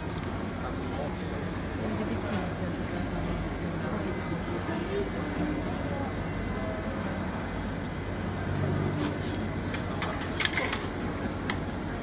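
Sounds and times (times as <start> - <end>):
crowd murmur: 0.0 - 12.0.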